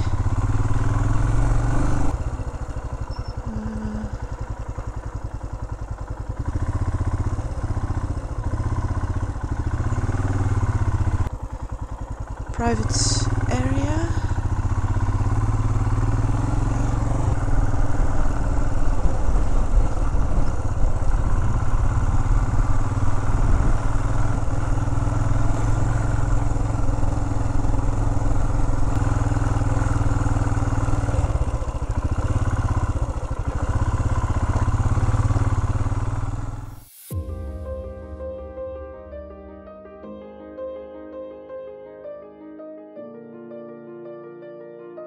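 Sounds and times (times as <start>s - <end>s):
motorcycle engine running: 0.0s - 38.2s.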